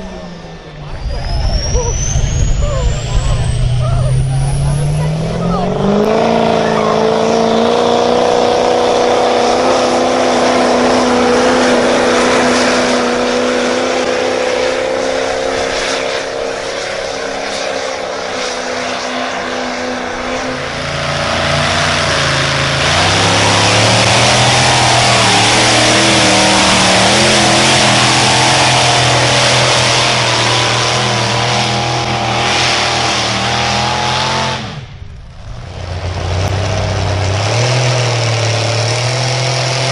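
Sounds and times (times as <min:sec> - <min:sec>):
engine revving under load: 0:00.0 - 0:39.9.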